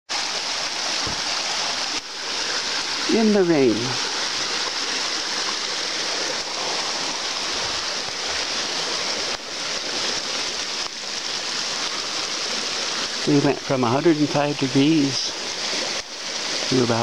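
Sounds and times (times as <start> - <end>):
rain falling: 0.1 - 17.0.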